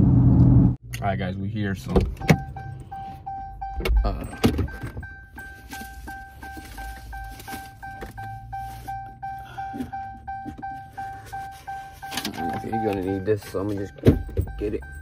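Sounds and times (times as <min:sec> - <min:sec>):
car warning chime dinging: 0:01.8 - 0:15.0.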